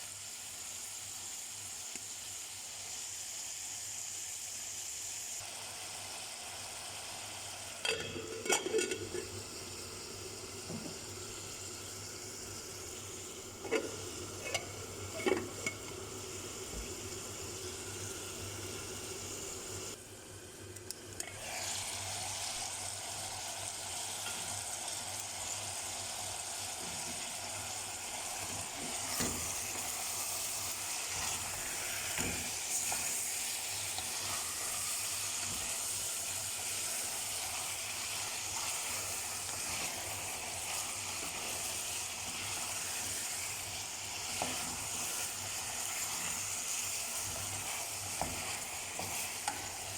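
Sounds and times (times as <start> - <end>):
food sizzling in frying pan: 0.0 - 49.9.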